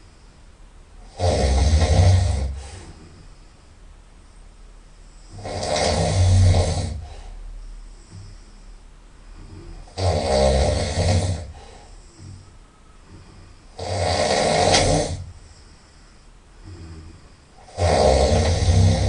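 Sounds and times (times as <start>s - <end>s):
quiet breathing: 0.0s - 19.0s
person snoring through the nose: 1.0s - 3.3s, 5.2s - 19.0s.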